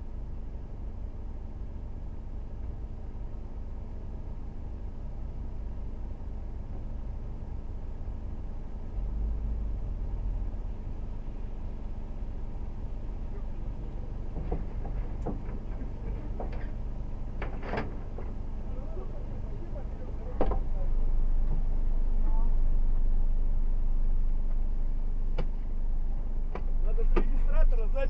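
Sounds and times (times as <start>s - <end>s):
off-road vehicle engines rumbling: 0.0s - 28.0s.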